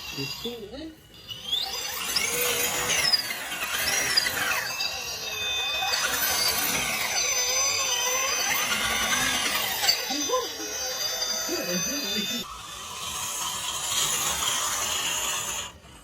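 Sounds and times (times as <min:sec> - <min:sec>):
electric motor and gears whining: 0:00.0 - 0:16.0.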